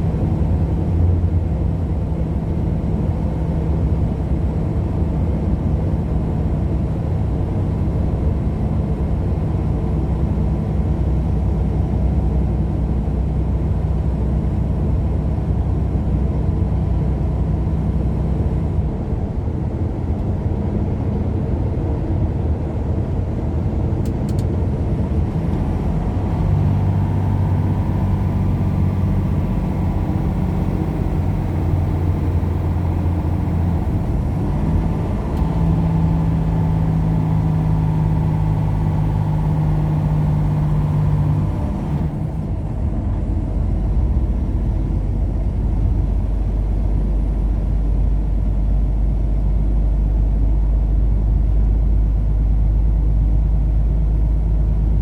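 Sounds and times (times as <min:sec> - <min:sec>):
vehicle engine hum: 0:00.0 - 0:55.0
road noise: 0:06.6 - 0:55.0.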